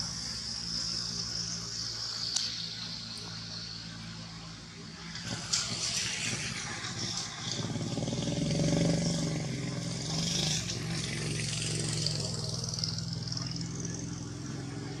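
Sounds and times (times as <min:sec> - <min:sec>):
steady high hiss: 0:00.0 - 0:13.6
vehicle engine running: 0:00.0 - 0:15.0.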